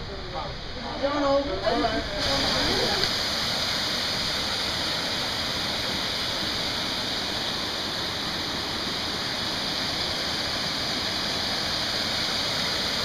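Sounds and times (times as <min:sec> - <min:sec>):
waterfall splashing into stream: 0:02.0 - 0:13.0.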